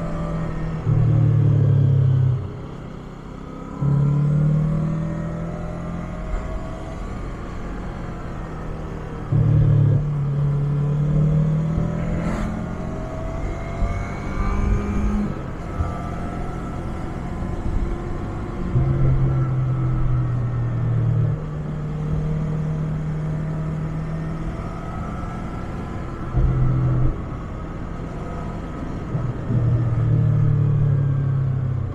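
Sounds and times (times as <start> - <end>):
motorcycle engine under throttle: 0.0 - 31.9
wind and road noise: 0.0 - 31.9.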